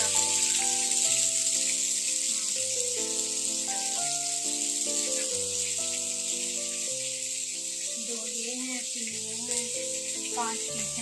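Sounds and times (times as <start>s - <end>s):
background music held notes: 0.0s - 11.0s
chicken frying in oil: 0.0s - 11.0s.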